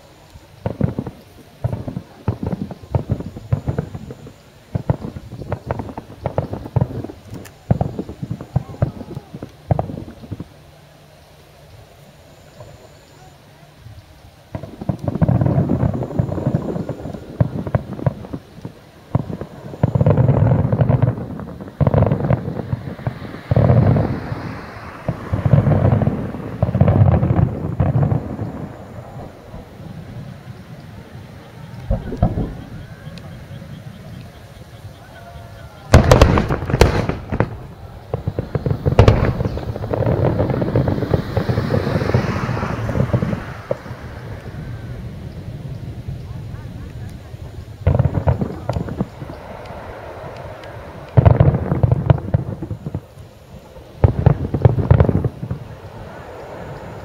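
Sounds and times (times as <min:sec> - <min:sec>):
fireworks booms rumbling: 0:00.0 - 0:10.9, 0:12.0 - 0:57.0
fireworks crackling pops: 0:00.0 - 0:57.0.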